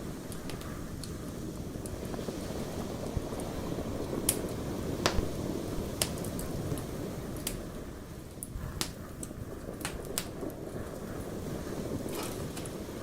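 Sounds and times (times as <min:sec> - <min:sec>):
campfire crackling and popping: 0:00.0 - 0:13.0
wind: 0:00.0 - 0:13.0.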